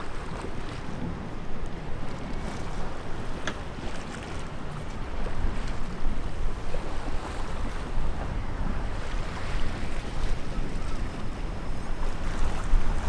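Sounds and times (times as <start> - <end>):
choppy sea water: 0.0 - 13.0
wind buffeting microphone: 0.0 - 13.0.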